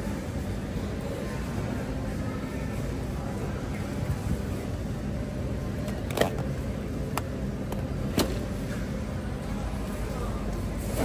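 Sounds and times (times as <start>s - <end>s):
low hum and rumble: 0.0s - 11.0s.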